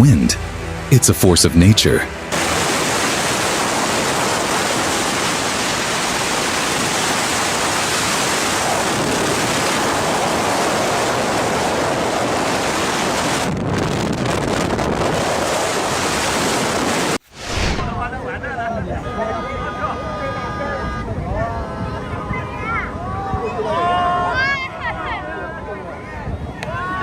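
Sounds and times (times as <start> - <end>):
strong wind blowing across microphone: 2.4 - 27.0.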